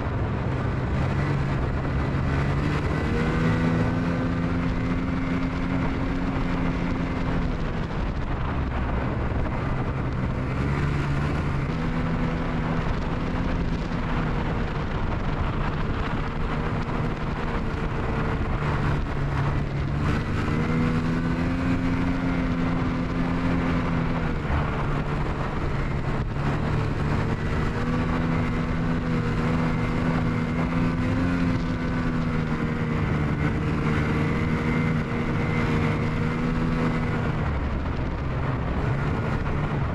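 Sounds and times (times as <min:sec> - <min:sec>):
snowmobile engine revving: 0:00.0 - 0:39.9
steady rush of noise: 0:00.0 - 0:39.9.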